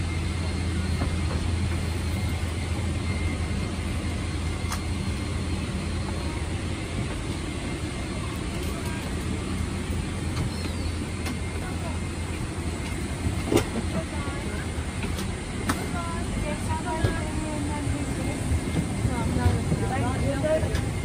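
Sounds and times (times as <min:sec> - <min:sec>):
airplane cabin hum and rumble: 0:00.0 - 0:21.0.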